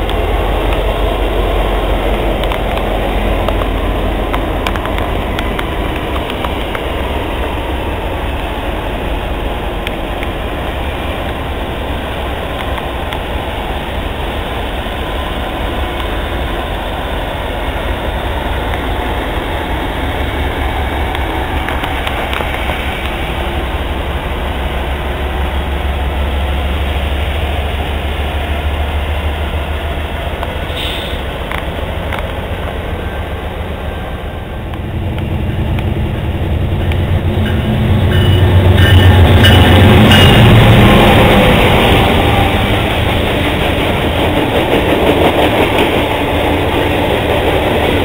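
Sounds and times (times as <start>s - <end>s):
freight train rolling past: 0.0s - 48.0s.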